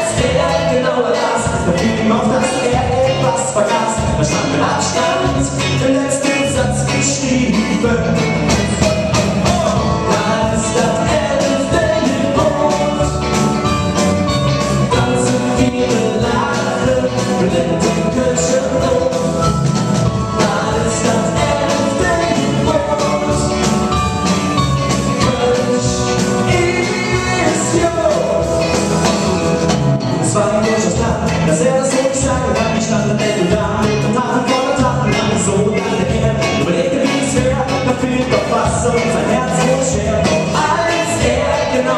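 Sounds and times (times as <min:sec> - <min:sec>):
drum kit: 0:00.0 - 0:41.9
electric guitar: 0:00.0 - 0:41.9
live rock band playing: 0:00.0 - 0:41.9
male lead vocals: 0:00.0 - 0:41.9.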